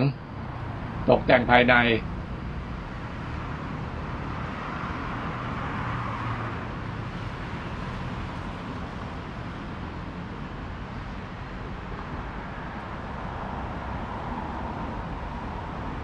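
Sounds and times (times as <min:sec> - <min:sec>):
cars passing: 0:00.0 - 0:16.0
motorbikes passing: 0:00.0 - 0:16.0.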